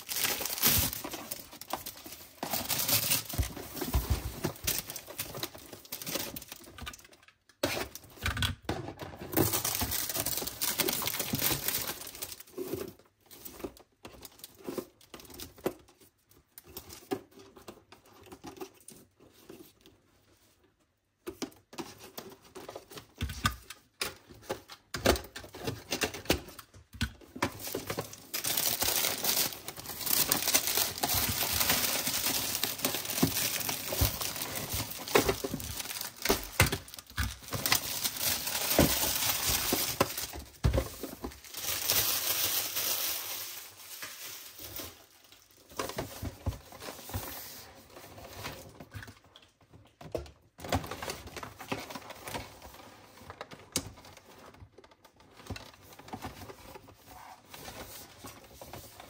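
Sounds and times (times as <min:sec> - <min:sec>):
plastic film and cardboard crinkling: 0:00.0 - 0:59.0.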